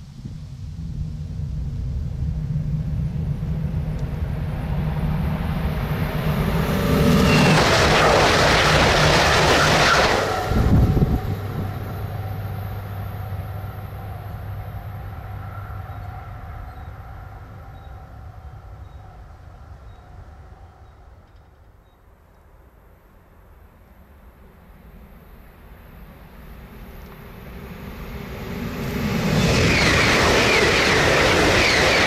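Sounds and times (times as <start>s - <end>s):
high-speed train passing: 0.0s - 32.0s.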